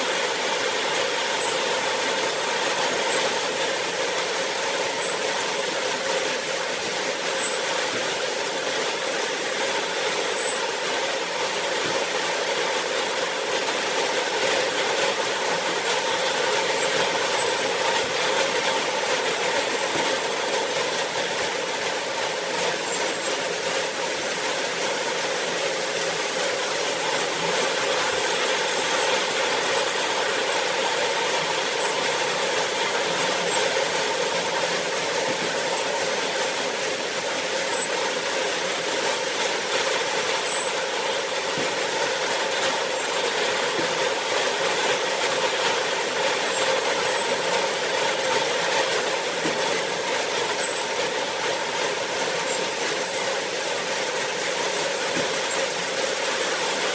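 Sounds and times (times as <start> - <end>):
farm machinery engine rattling: 0.0 - 56.9.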